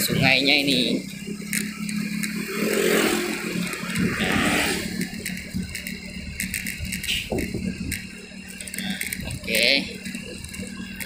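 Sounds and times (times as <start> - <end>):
motorcycle engine running: 0.0 - 11.0
road and traffic noise: 0.0 - 11.0.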